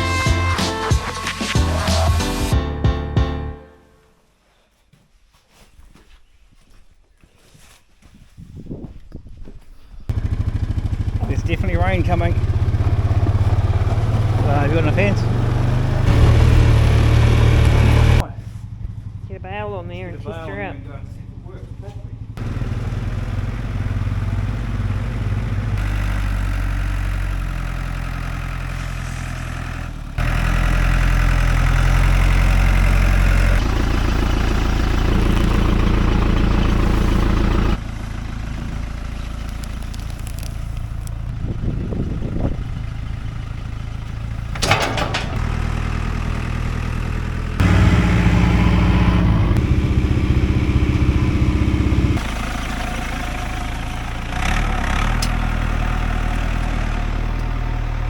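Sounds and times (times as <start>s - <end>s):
tractor engine running: 10.1s - 58.0s.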